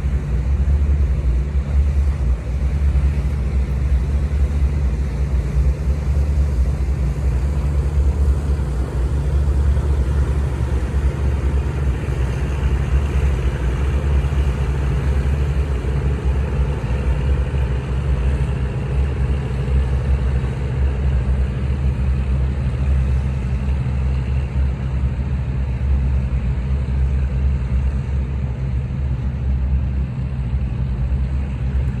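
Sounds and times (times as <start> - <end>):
boat engine low drone: 0.0 - 32.0.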